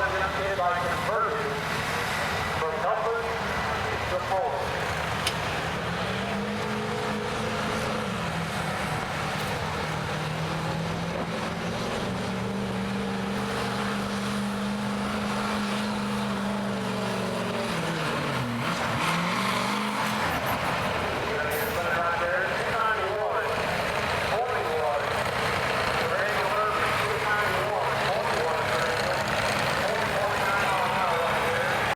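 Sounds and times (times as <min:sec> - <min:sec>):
diesel engine under heavy load: 0:00.0 - 0:31.9.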